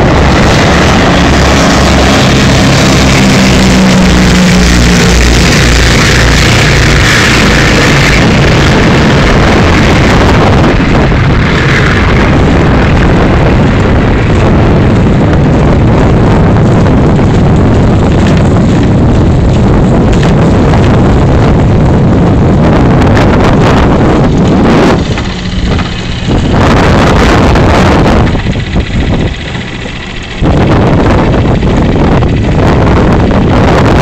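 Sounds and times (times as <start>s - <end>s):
boat motor running: 0.0s - 34.0s
wind buffeting microphone: 0.0s - 34.0s.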